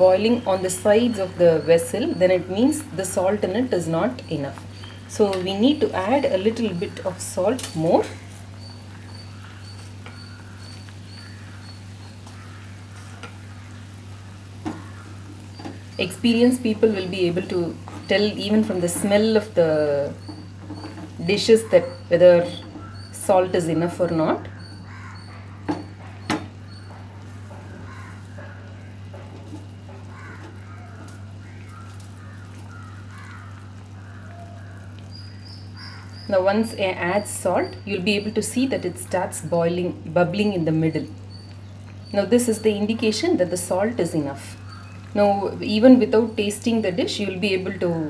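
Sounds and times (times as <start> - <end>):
gravy bubbling in a pot: 0.0 - 48.0
steady low hum: 0.0 - 48.0
faint bird calls: 5.7 - 39.5, 41.1 - 45.9.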